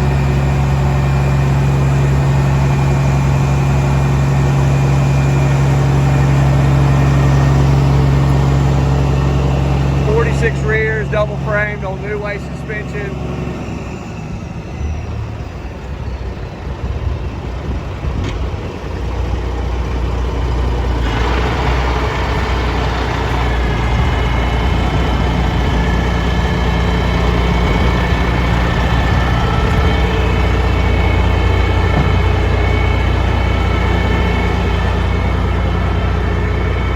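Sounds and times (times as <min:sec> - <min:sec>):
diesel truck engine idling: 0:00.0 - 0:36.9.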